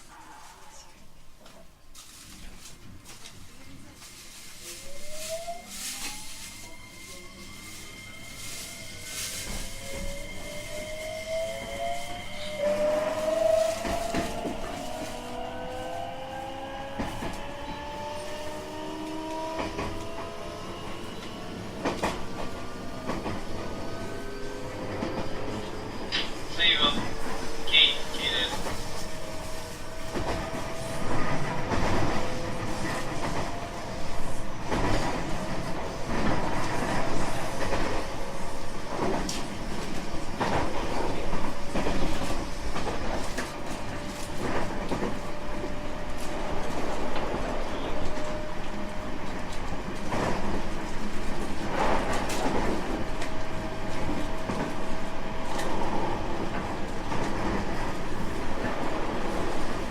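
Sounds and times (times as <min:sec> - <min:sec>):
train wheels rumbling on rail: 0:01.4 - 0:59.9.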